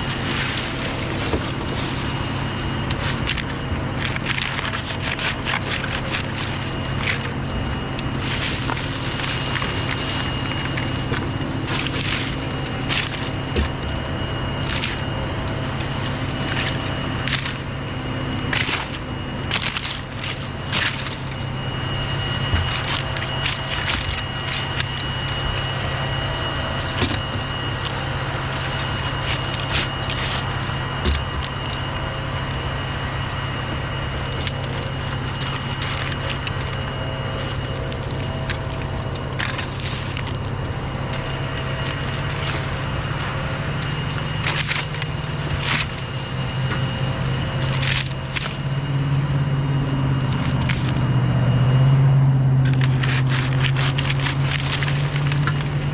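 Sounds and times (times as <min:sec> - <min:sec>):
low engine hum: 0:00.0 - 0:55.9.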